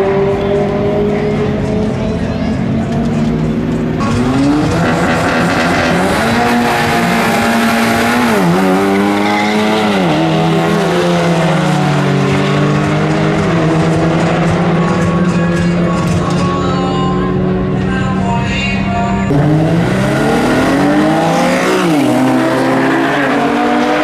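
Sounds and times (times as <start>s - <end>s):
car engines at full throttle: 0.0s - 24.0s.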